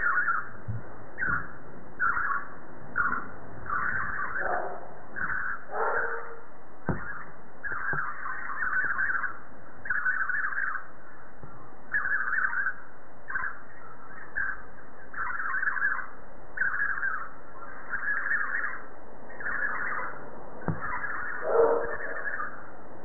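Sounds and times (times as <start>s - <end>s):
budgerigar chattering: 0.0s - 0.5s, 1.2s - 6.3s, 6.9s - 10.8s, 11.9s - 13.6s, 14.2s - 18.8s, 19.4s - 22.6s.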